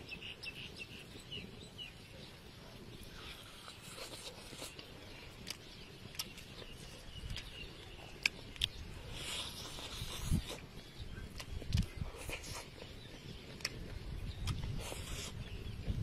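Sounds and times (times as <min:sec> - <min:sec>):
crispy fried fish being chewed: 0:01.0 - 0:16.0.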